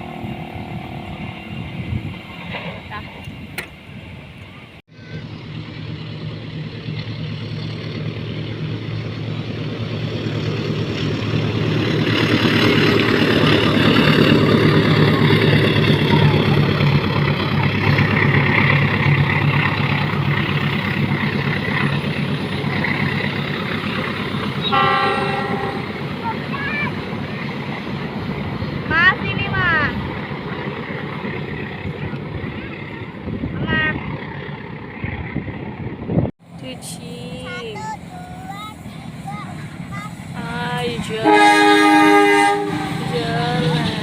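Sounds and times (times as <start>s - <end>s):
diesel engine drone: 0.0s - 44.0s
train wheels on rails: 0.0s - 44.0s.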